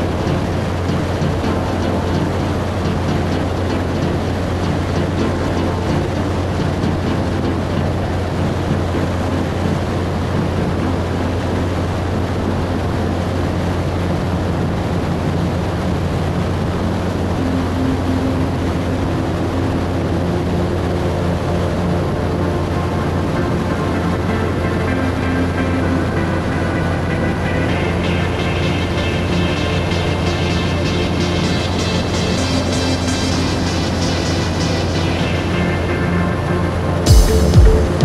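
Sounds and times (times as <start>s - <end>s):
propeller engine drone: 0.0s - 38.0s
rushing wind: 0.0s - 38.0s.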